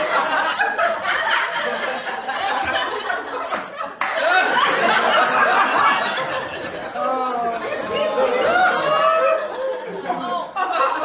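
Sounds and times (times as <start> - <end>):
people talking and laughing: 0.0 - 11.0.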